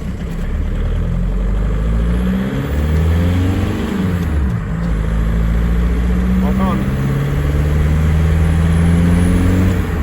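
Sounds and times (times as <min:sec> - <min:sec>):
diesel engine revving: 0:00.0 - 0:10.0.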